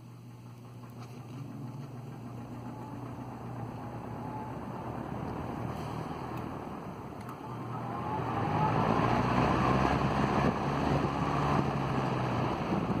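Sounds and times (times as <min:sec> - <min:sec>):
table fan running: 0:00.0 - 0:13.0.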